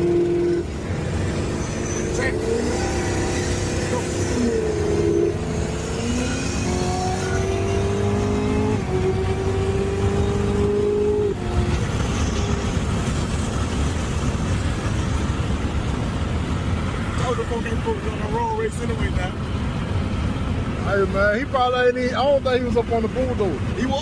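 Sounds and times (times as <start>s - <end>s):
car engine accelerating: 0.0s - 21.1s
road and wind noise: 0.0s - 24.0s.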